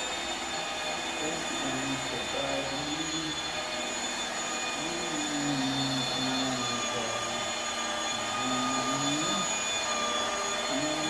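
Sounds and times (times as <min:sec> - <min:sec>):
rotary polisher whining: 0:00.0 - 0:11.0.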